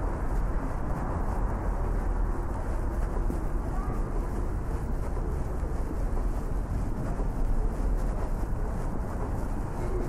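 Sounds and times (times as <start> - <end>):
city background rumble: 0.0 - 10.0
faint footsteps: 0.0 - 10.0.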